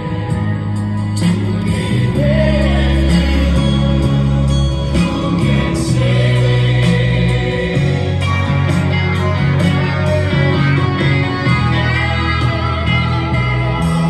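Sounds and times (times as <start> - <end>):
song with singing over instruments: 0.0 - 14.0.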